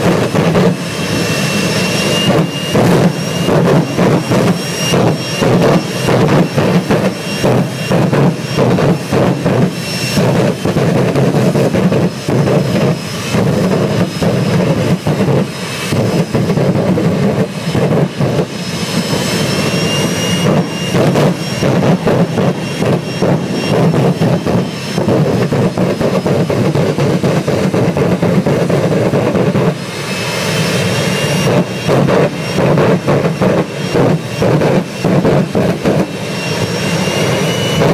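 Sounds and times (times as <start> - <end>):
afterburner pops and bursts: 0.0 - 19.3, 20.0 - 30.0, 31.3 - 37.0
high turbine whine: 0.0 - 37.9
jet engine roar: 0.0 - 37.9.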